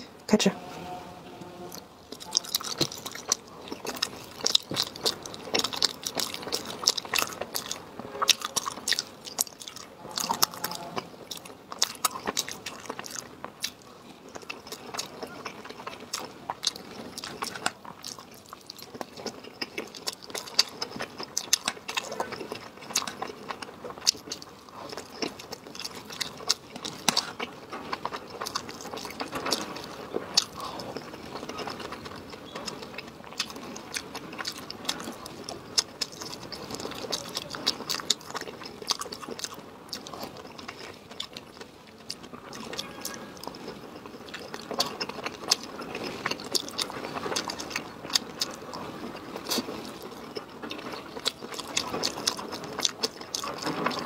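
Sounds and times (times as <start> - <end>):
person chewing crunchy food: 1.6 - 54.0.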